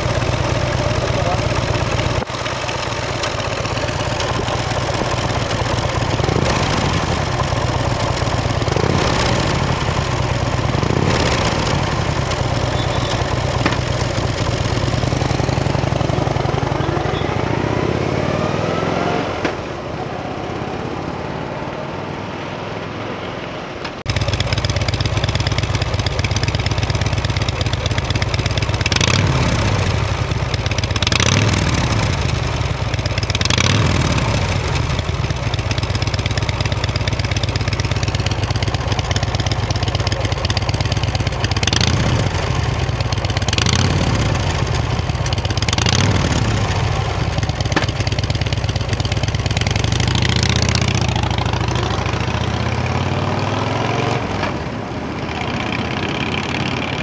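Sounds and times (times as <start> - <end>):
motorcycle accelerating: 0.0 - 57.0
motorcycle engine idling and revving: 0.0 - 57.0.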